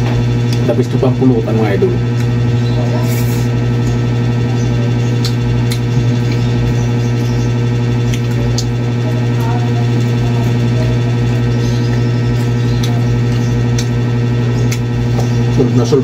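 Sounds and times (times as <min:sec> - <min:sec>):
loud steady low hum: 0:00.0 - 0:16.0.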